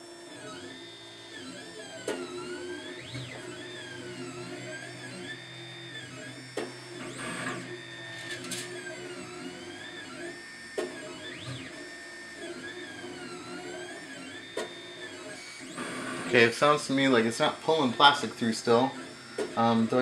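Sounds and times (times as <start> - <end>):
stepper motors whining: 0.0 - 20.0.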